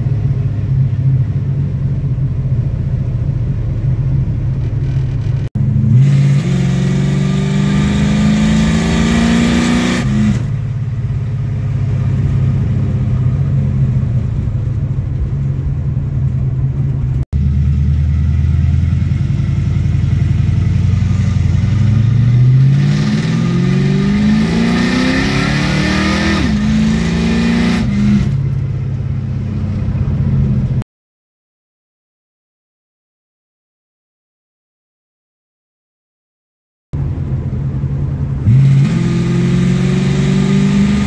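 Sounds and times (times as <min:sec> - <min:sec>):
car engine accelerating: 0:00.0 - 0:30.8, 0:37.0 - 0:41.0.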